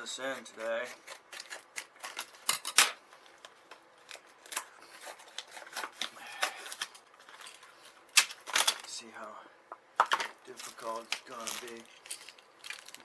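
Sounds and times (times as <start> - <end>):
packaging clicks and crackles: 0.6 - 9.0, 10.1 - 13.0.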